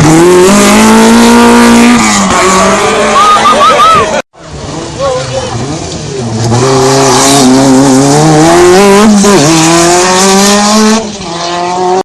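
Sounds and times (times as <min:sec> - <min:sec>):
rally car engine accelerating: 0:00.0 - 0:03.2, 0:04.4 - 0:12.0.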